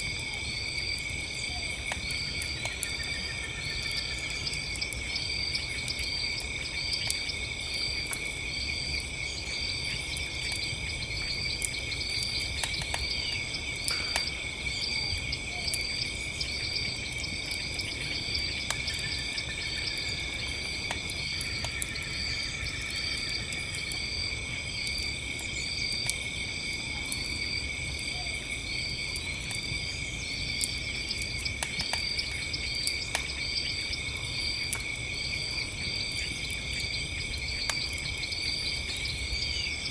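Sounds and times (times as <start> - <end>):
crackling campfire: 0.0 - 39.9
crickets chirping: 0.0 - 39.9.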